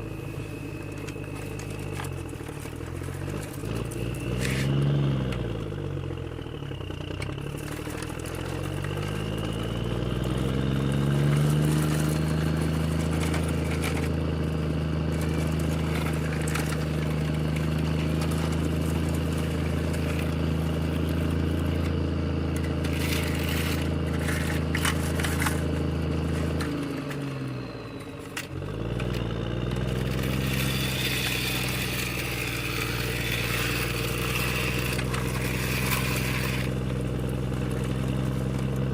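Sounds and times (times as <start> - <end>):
engine-like drone: 0.0 - 38.9.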